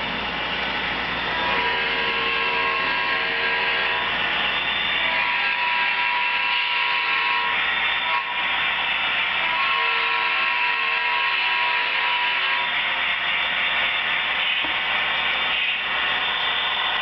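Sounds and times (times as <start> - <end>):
model train whirring on track: 0.0 - 17.0.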